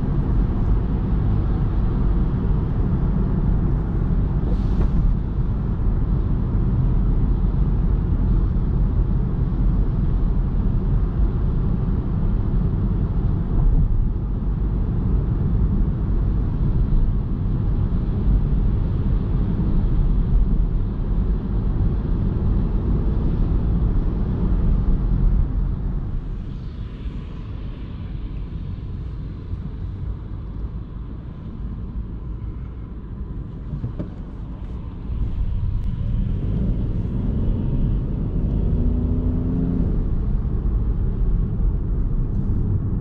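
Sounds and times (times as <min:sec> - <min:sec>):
car road and tyre noise: 0:00.0 - 0:43.0.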